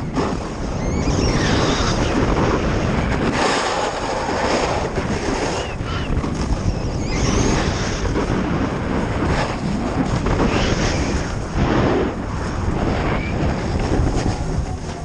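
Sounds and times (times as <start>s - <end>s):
snowboard scraping on snow: 0.0s - 15.0s
wind buffeting microphone: 0.0s - 15.0s.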